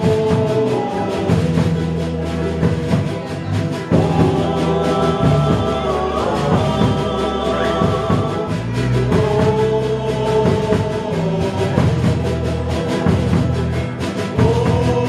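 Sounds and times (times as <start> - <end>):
song with steady drum beat: 0.0 - 15.0.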